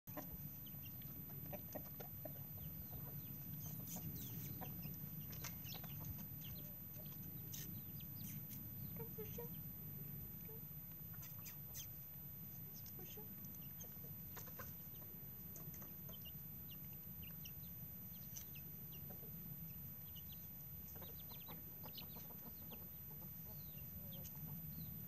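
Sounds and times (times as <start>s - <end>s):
chickens clucking: 0.1s - 25.0s
chicks peeping: 0.1s - 25.0s
low steady hum: 0.1s - 25.0s.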